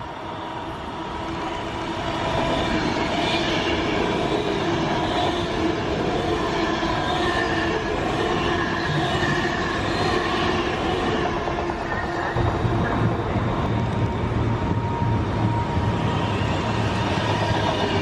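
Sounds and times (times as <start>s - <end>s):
train wheels rushing on rail: 0.0s - 18.0s.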